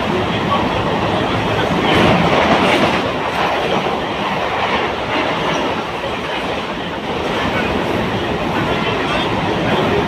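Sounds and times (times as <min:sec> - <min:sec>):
train wheels rumbling on rails: 0:00.0 - 0:10.0
clickety-clack over rail joints: 0:01.4 - 0:10.0.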